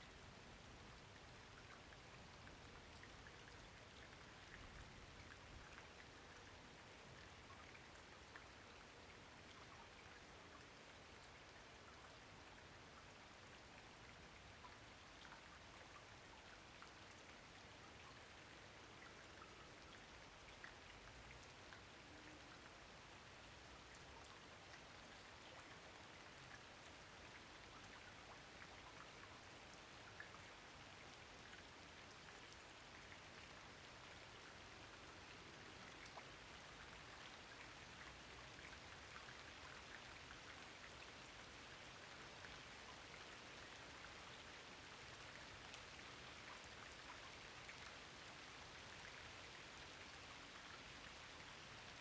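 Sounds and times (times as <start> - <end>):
soft steady rain: 0.0 - 52.0.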